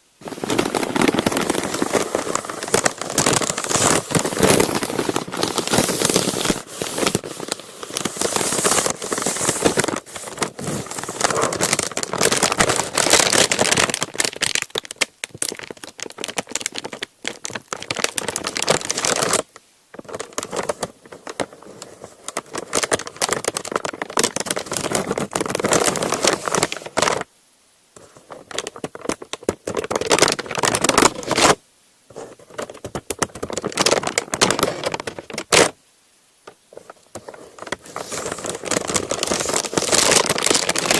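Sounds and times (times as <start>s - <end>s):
paper crumpling: 0.2s - 27.3s, 28.0s - 35.8s, 36.7s - 40.9s.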